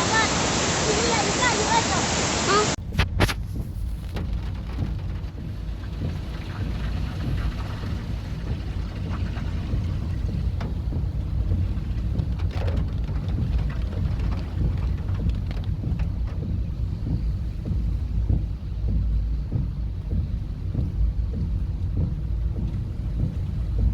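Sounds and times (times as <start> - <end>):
floodwater rushing: 0.0 - 2.8, 4.6 - 23.9
deep low rumble: 2.8 - 23.9.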